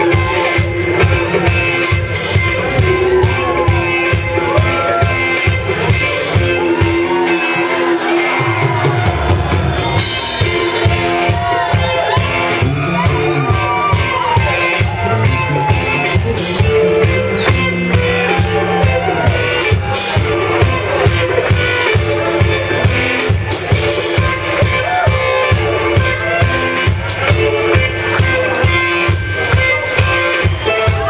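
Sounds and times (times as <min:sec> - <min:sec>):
drum kit steady beat: 0:00.0 - 0:31.0
electric guitars: 0:00.0 - 0:31.0.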